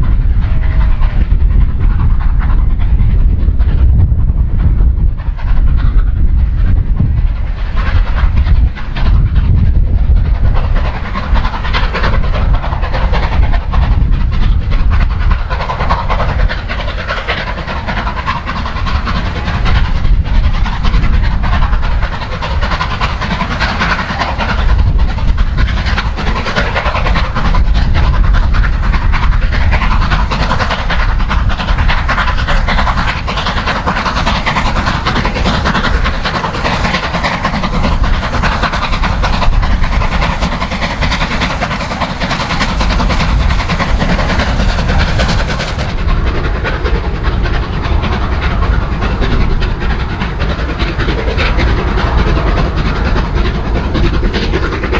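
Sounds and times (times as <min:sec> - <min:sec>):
steam locomotive running: 0:00.0 - 0:54.9.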